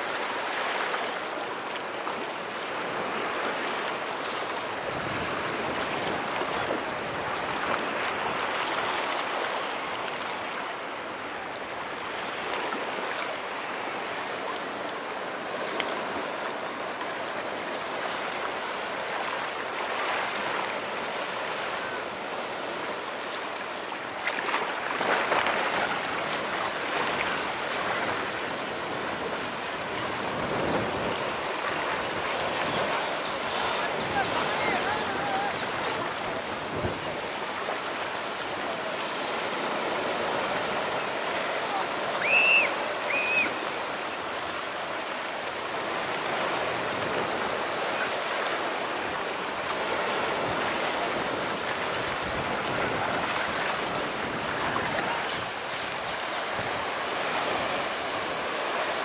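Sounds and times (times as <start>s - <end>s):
waves washing against shore: 0.0s - 59.0s.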